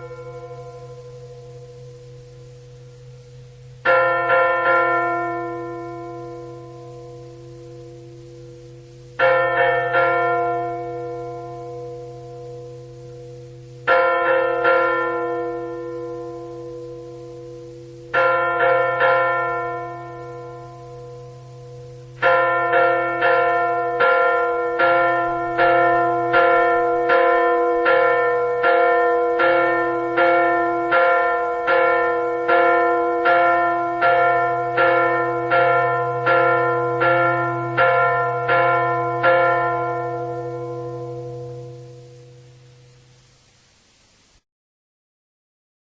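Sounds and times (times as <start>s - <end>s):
bell tolling: 0.0s - 43.1s
low hum: 0.0s - 44.3s.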